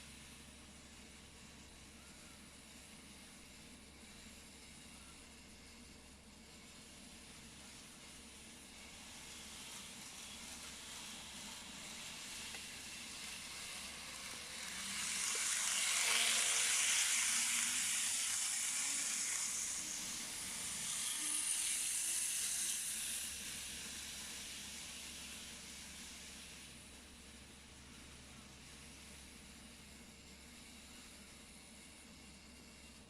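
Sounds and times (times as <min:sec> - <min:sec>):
model train motor and wheels whirring: 0:00.0 - 0:33.0.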